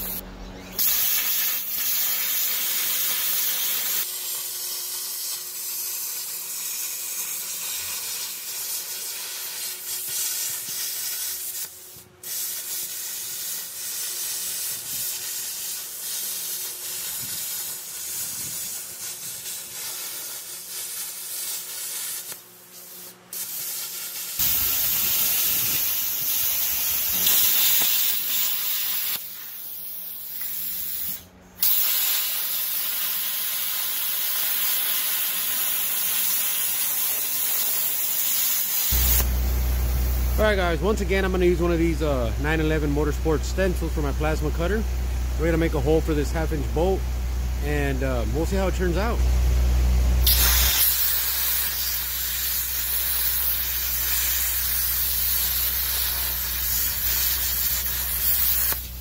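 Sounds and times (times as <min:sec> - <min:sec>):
plasma cutter hissing: 0:00.0 - 0:49.2, 0:50.2 - 0:59.0.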